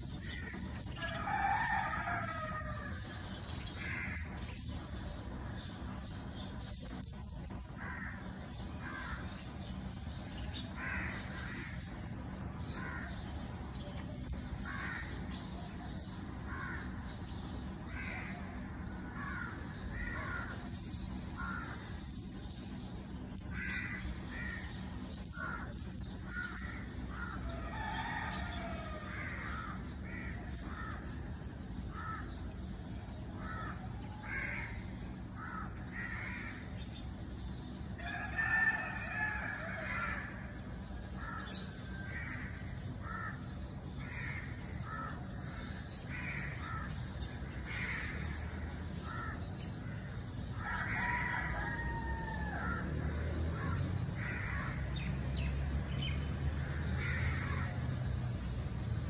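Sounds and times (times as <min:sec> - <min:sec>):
birds calling: 0:00.0 - 0:59.0
low background hum: 0:00.0 - 0:59.0.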